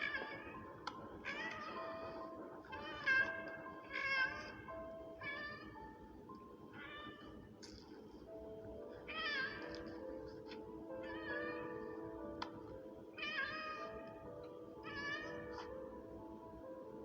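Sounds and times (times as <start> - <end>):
simple melody of held notes: 0.0 - 7.6, 8.2 - 17.0.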